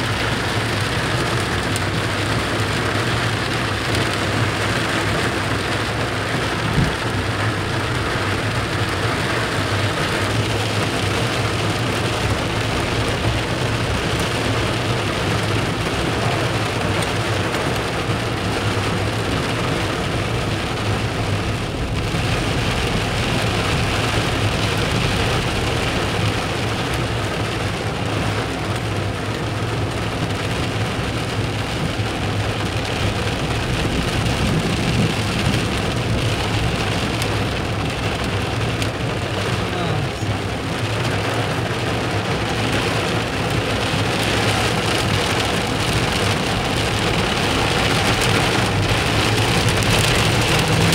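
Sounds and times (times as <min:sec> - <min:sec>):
low hum of moving car: 0:00.0 - 0:50.9
rain and hail on car roof: 0:00.0 - 0:50.9.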